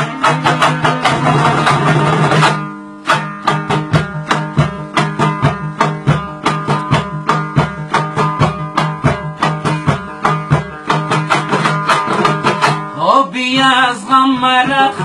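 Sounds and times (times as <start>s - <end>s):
percussion: 0.0s - 15.0s
plucked string instrument: 0.0s - 15.0s.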